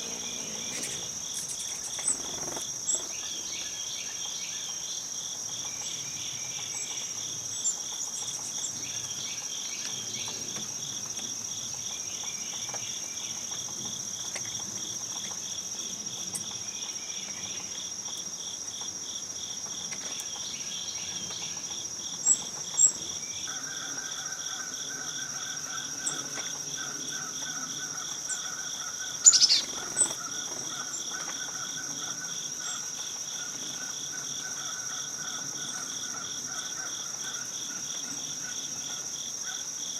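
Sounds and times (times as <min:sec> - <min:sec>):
crickets and katydids trilling: 0:00.0 - 0:39.9.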